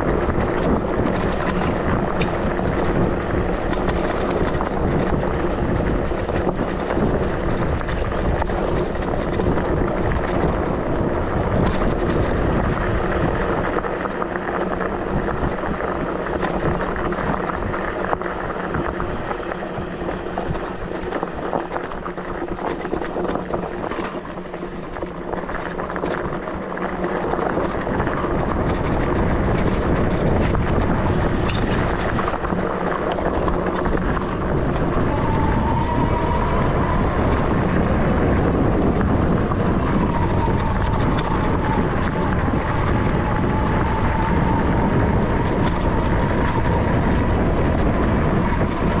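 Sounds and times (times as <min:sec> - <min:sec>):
bike rattling and knocking: 0:00.0 - 0:49.0
wind buffeting microphone: 0:00.0 - 0:49.0.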